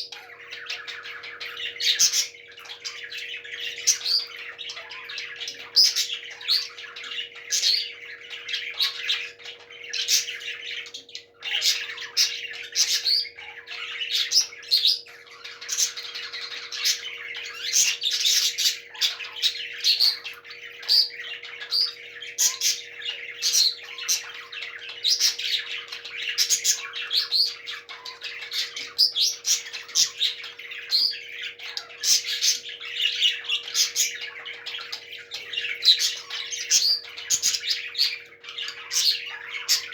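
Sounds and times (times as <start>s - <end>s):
parrots chirping and squawking: 0.0s - 39.9s.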